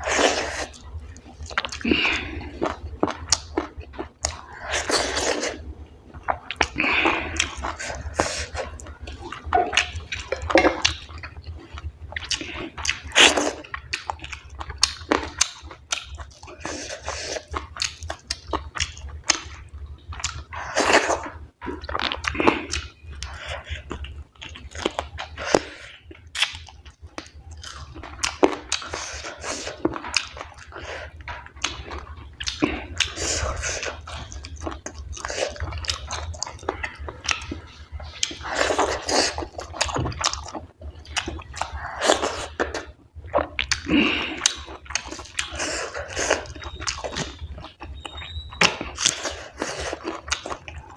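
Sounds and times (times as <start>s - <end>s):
person chewing with wet smacks: 0.0s - 50.9s.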